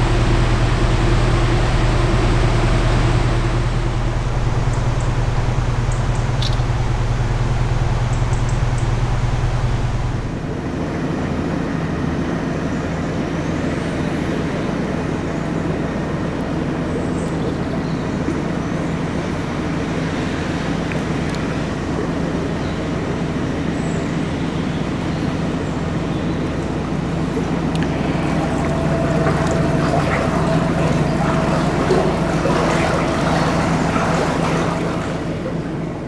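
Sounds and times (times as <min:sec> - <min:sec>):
boat diesel engine running: 0:00.0 - 0:36.0.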